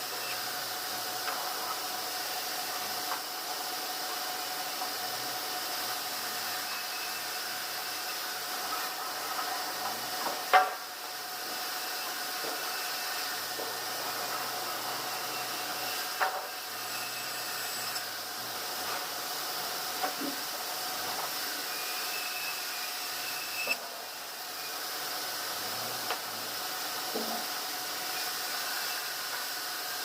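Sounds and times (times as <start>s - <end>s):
sawmill machinery hissing: 0.0s - 30.0s.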